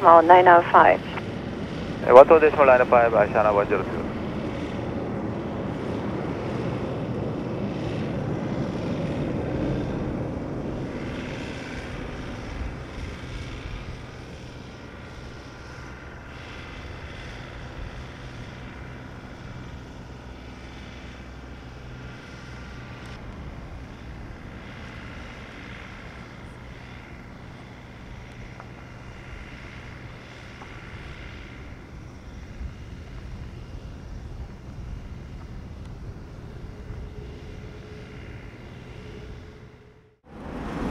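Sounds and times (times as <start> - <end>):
jet airliner engine noise: 0.0 - 40.9.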